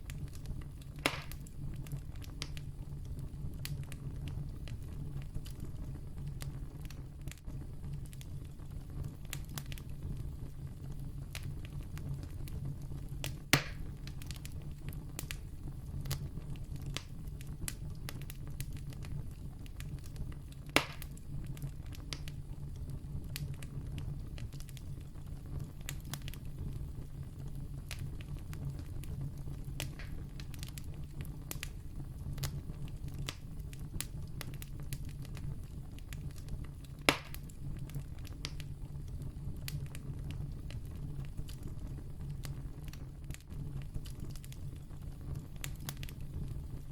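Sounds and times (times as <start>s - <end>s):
campfire crackling: 0.0s - 46.9s
sharp pops from fire: 0.0s - 46.9s.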